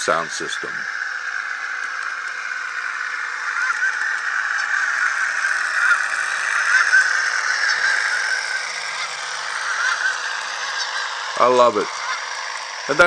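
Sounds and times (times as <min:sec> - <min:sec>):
model train engine sound from small speaker: 0:00.0 - 0:13.0.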